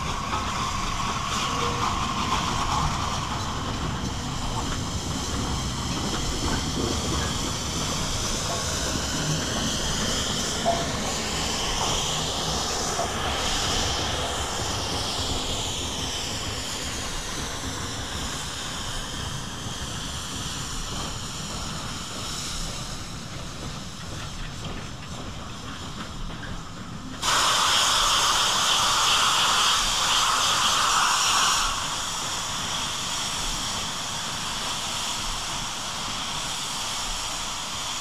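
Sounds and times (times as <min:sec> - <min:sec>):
steam train rolling past: 0:00.0 - 0:38.0.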